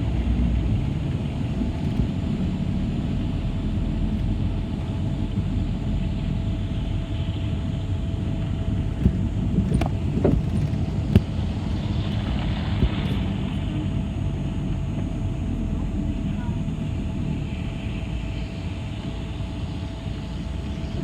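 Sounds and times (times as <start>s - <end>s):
bus engine and road rumble: 0.0s - 21.0s
faint steady whine: 0.0s - 21.0s.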